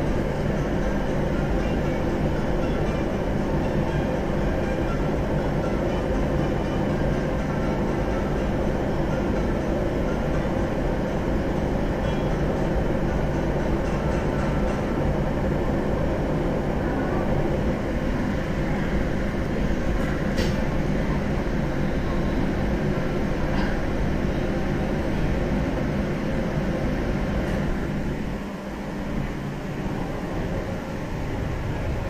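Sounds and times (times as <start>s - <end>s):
train rumbling with low hum: 0.0s - 32.0s.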